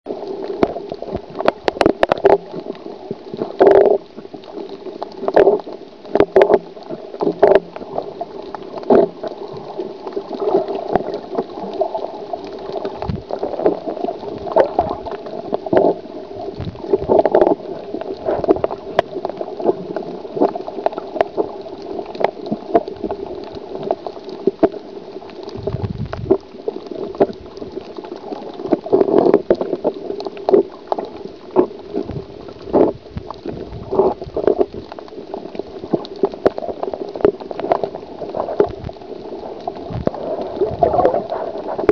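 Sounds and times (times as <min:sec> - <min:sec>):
muffled underwater noise: 0:00.1 - 0:41.9
sharp clicks and crackles: 0:00.1 - 0:41.9.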